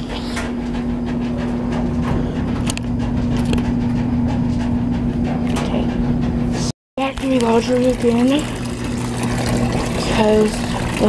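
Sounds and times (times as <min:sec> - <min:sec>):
clothes dryer running: 0:00.0 - 0:11.0.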